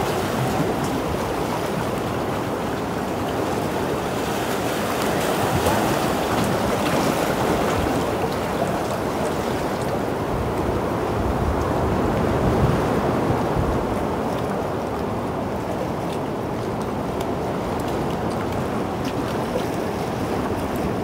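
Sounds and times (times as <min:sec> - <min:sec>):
sea surf on rocky shore: 0:00.0 - 0:21.0.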